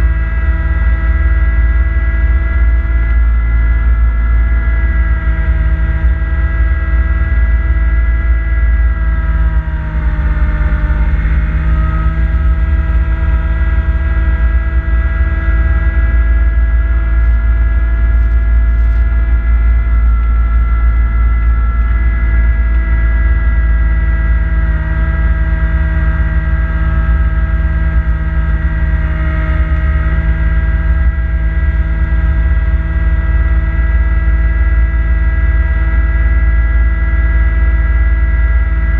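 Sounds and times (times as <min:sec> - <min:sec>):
snowblower whine: 0:00.0 - 0:38.9
tractor diesel engine running: 0:00.0 - 0:38.9.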